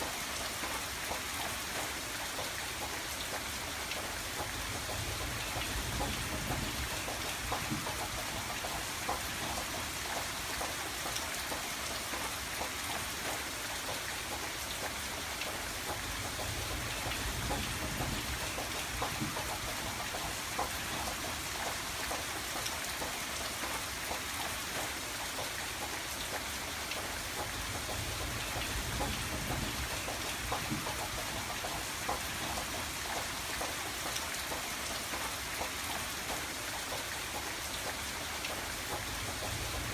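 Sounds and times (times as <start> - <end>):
rain on a window pane: 0.0 - 39.9.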